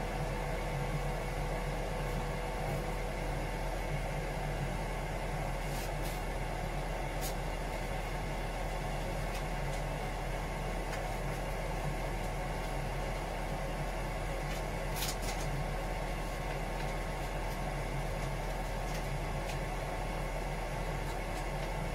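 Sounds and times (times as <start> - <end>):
engine-room machinery humming: 0.0 - 21.9.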